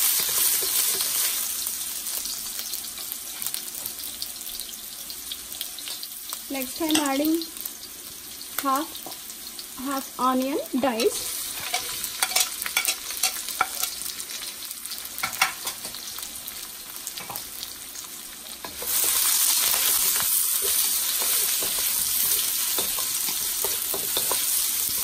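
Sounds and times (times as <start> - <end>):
onion sizzling in hot oil: 0.0 - 25.0.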